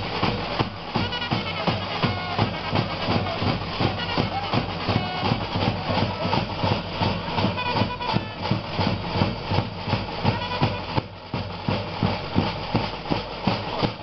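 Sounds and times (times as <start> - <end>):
drums playing fast beat: 0.0 - 14.0.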